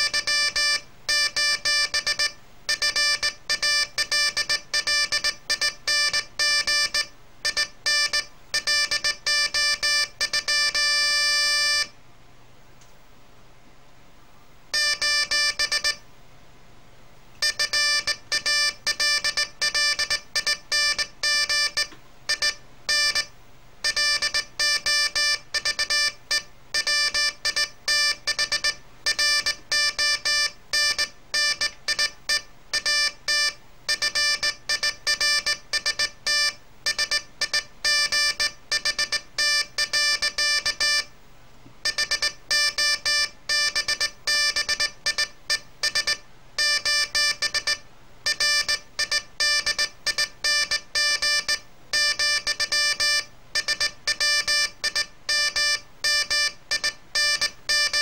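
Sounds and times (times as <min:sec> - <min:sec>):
morse code beeps: 0:00.0 - 0:11.9, 0:14.8 - 0:16.0, 0:17.4 - 0:41.1, 0:41.8 - 0:58.0.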